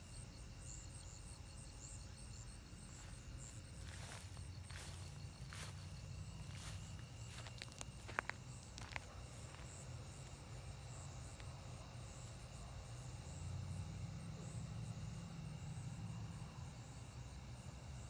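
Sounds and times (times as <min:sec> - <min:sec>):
crickets and insects trilling: 0:00.0 - 0:18.0.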